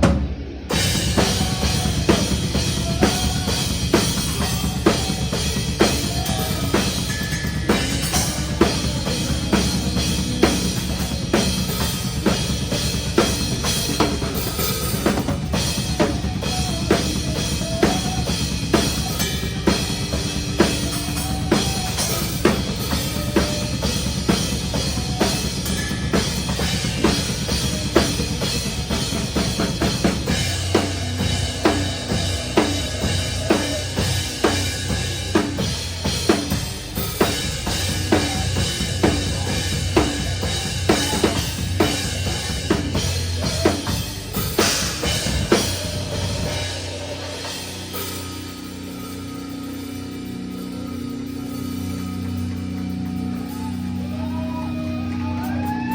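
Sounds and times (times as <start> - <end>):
bass drum pattern: 0.0 - 48.9
metalcore band playing: 0.0 - 55.9.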